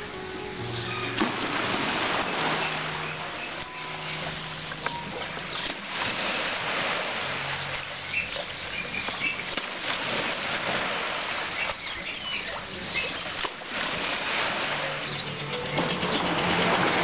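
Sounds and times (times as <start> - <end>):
water splashing on sandy shore: 1.1 - 15.2.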